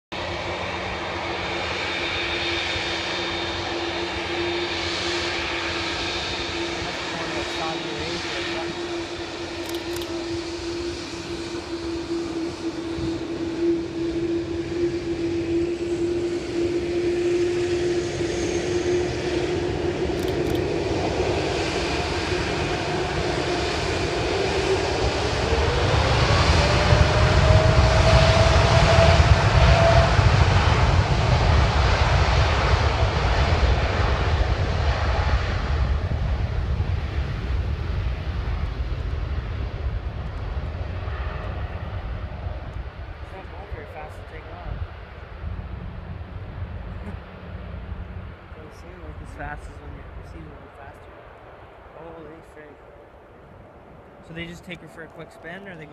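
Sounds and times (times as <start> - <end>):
deep jet rumble: 0.1 - 55.9
jet engines whining: 0.2 - 55.9.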